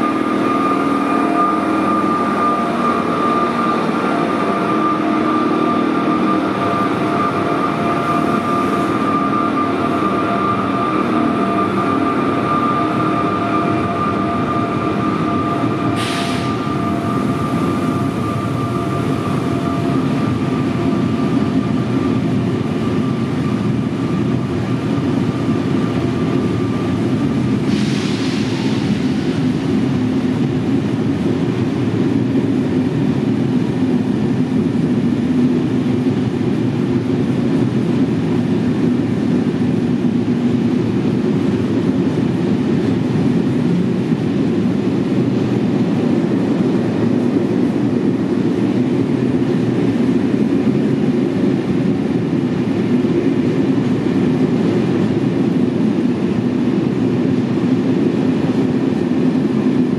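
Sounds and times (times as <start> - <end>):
electric locomotive whine: 0.0 - 59.9
train wheels rumbling on rails: 0.0 - 59.9.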